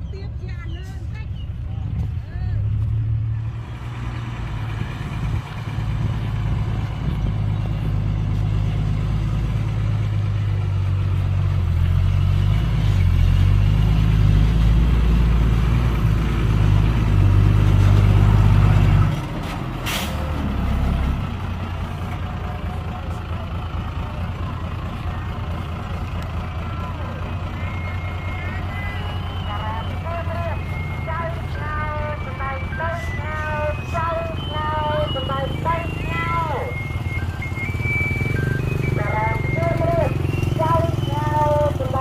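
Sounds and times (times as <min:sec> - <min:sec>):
diesel truck engine rumbling: 0:00.0 - 0:42.0.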